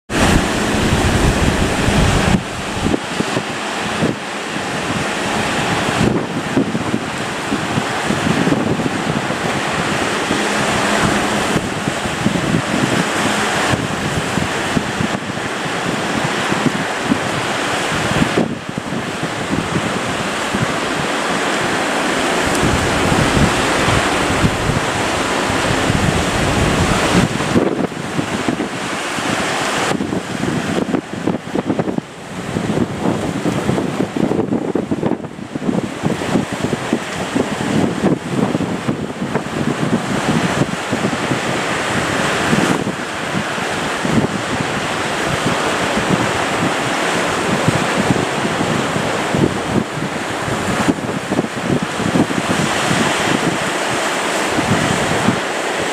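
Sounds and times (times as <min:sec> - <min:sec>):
sea waves rushing: 0:00.0 - 0:55.9
wind buffeting microphone: 0:00.1 - 0:55.9.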